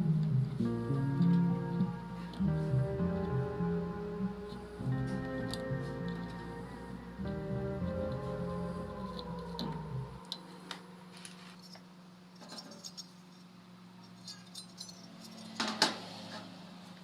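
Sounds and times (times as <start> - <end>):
faint steady hum: 0.0 - 15.1.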